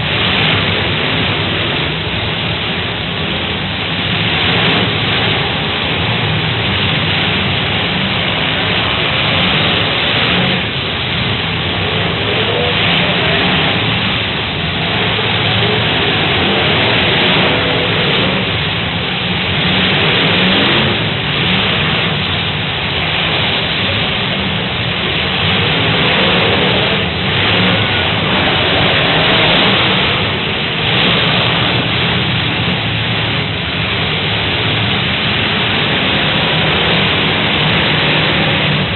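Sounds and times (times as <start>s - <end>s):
many car engines revving: 0.0s - 38.9s.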